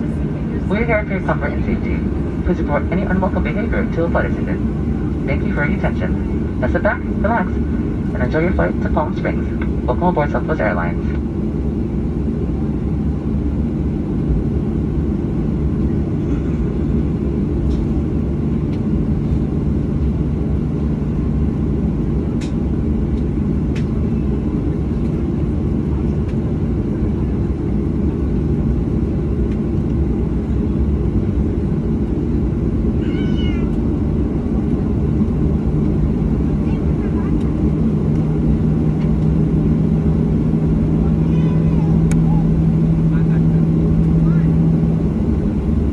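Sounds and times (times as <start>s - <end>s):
aircraft cabin rumble: 0.0s - 45.9s.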